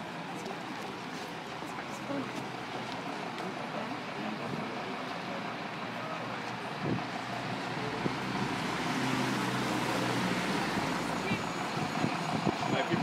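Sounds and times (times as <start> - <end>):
street traffic: 0.0 - 13.0
vehicle engine humming: 0.0 - 13.0.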